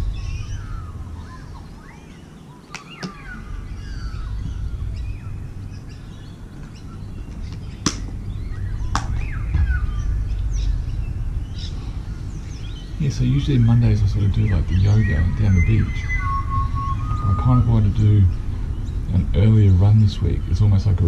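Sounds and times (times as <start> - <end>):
birds chirping and calling: 0.0 - 21.0
steady low rumble: 0.0 - 21.0.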